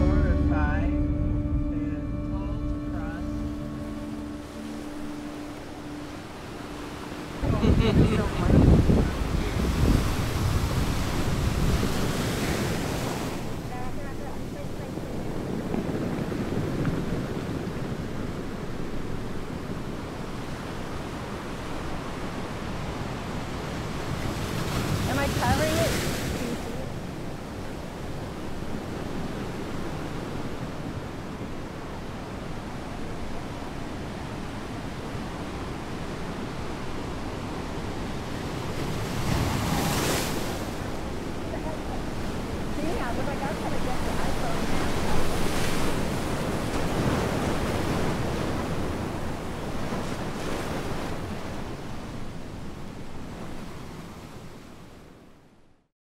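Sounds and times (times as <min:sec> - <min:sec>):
wind rumble on microphone: 0:00.0 - 0:55.3
ocean surf washing on rocks: 0:03.0 - 0:55.3.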